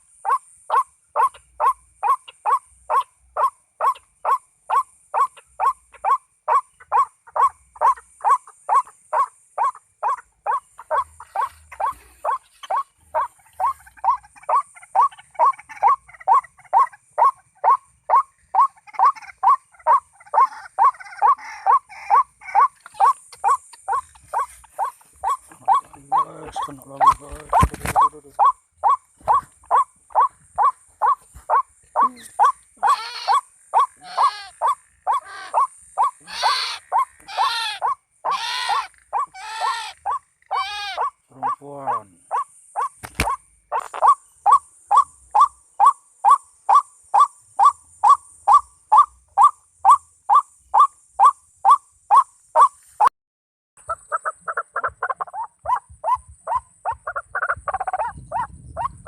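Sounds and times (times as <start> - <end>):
harsher bird calls: 0.0 - 52.8, 53.8 - 59.0.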